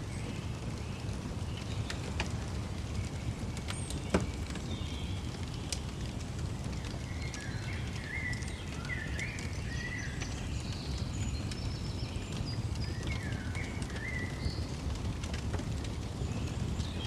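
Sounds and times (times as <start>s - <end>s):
fire crackling: 0.0s - 17.0s
fire popping: 0.0s - 17.0s.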